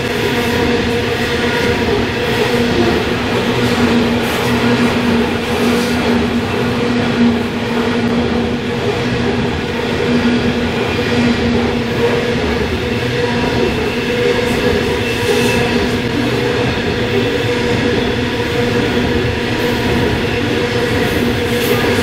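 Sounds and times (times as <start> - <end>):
steel wheels rumbling on track: 0.0 - 22.0.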